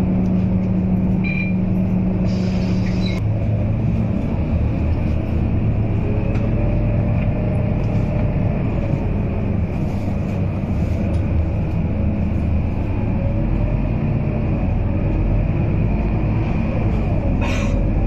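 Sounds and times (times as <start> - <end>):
bus engine rumble: 0.0 - 18.0.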